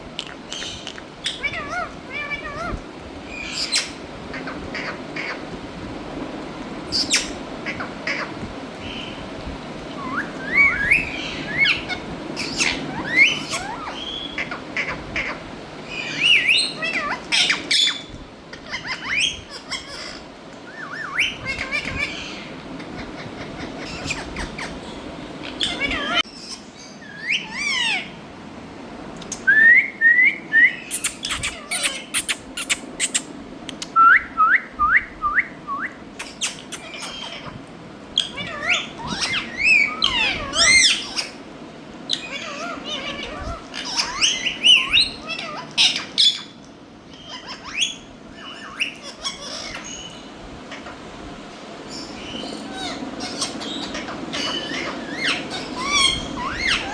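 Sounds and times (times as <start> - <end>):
parrots squawking and chirping: 0.2 - 5.6, 6.9 - 9.2, 9.9 - 28.2, 30.6 - 33.9, 36.2 - 41.5, 42.1 - 51.1, 51.9 - 56.9.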